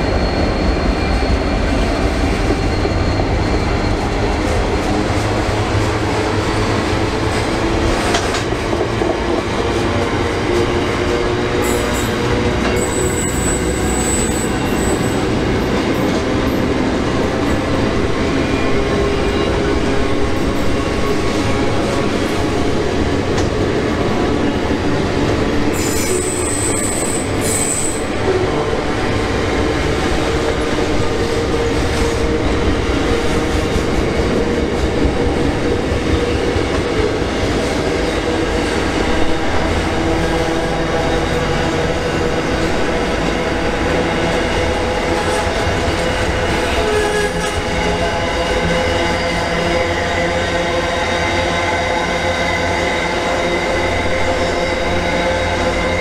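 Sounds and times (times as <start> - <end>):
train wheels squealing on rails: 0.0 - 56.0.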